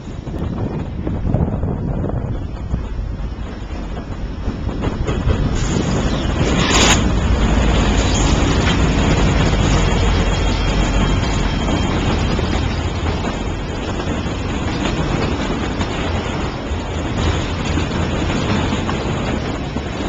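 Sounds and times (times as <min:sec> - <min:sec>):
diesel locomotives passing: 0:00.0 - 0:20.0
train cars rumbling on rails: 0:00.0 - 0:20.0.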